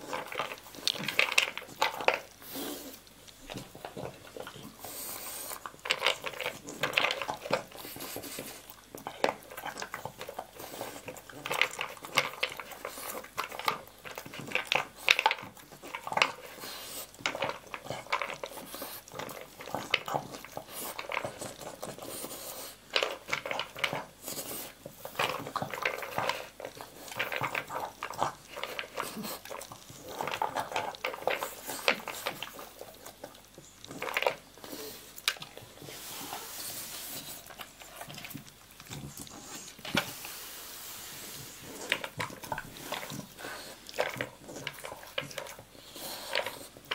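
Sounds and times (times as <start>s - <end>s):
dog crunching kibble: 0.0s - 46.9s.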